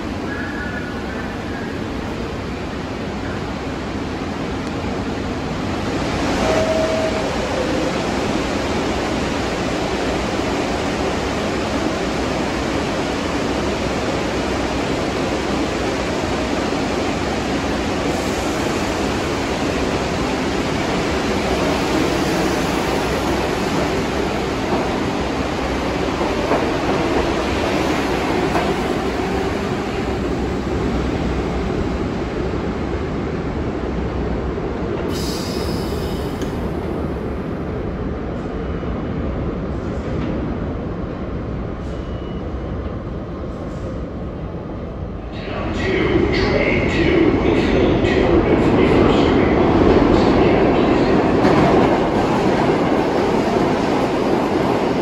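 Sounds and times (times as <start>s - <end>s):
subway station rumble: 0.0s - 55.0s.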